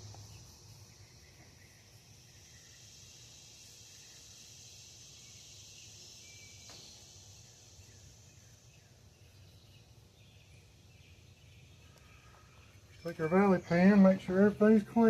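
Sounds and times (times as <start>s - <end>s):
faint high hiss: 0.0s - 15.0s.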